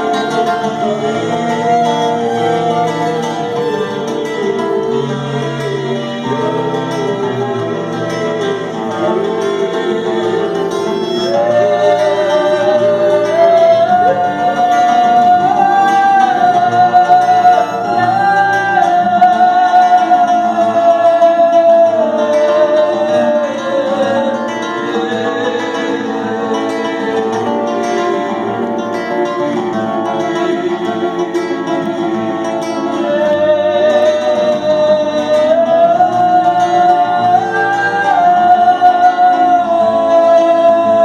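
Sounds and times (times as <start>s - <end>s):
acoustic guitar accompaniment: 0.0s - 41.0s
long held melody line: 0.0s - 41.0s.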